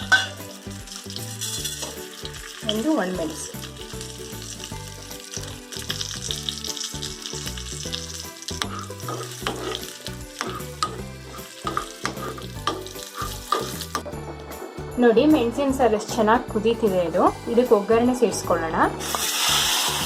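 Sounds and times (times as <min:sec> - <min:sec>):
spices sizzling in hot oil: 0:00.0 - 0:14.2, 0:17.5 - 0:20.0.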